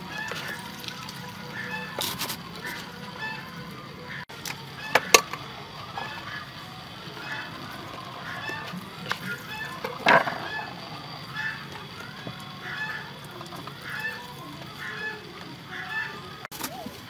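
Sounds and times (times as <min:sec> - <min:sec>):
chickens calling: 0:00.0 - 0:17.0.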